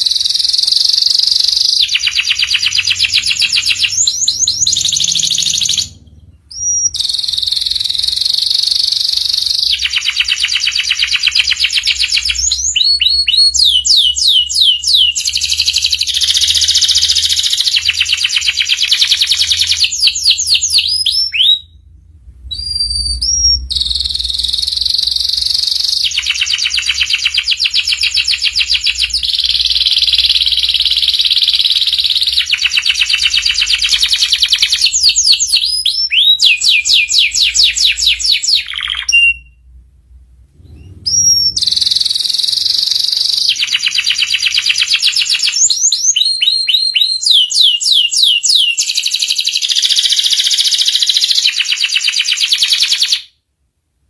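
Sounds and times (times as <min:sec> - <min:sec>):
canary singing trills: 0:00.0 - 0:39.8, 0:40.6 - 0:53.3.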